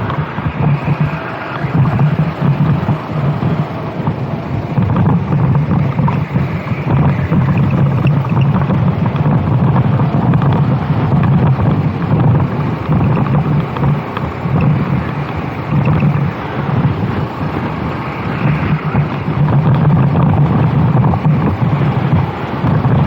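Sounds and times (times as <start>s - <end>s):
kart engine droning: 0.0s - 23.0s
wind noise on microphone: 0.0s - 23.0s.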